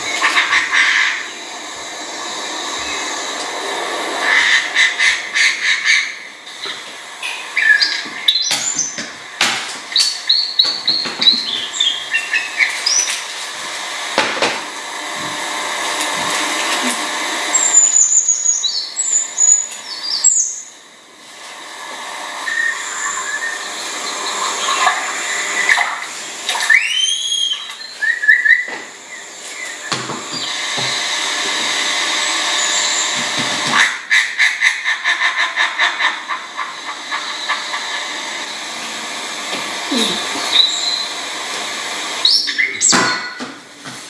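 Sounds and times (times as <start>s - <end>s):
birds singing and calling: 0.0s - 13.6s, 17.4s - 20.8s, 22.2s - 38.6s, 40.0s - 41.4s, 42.0s - 43.5s.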